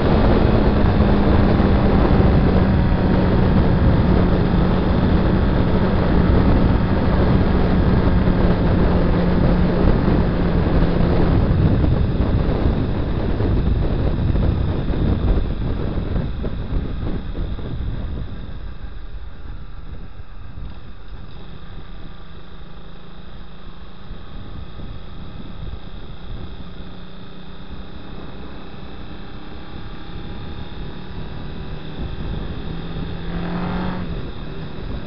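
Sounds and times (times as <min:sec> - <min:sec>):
wind buffeting microphone: 0:00.0 - 0:22.6, 0:23.9 - 0:35.0
motorcycle engine running: 0:00.0 - 0:35.0.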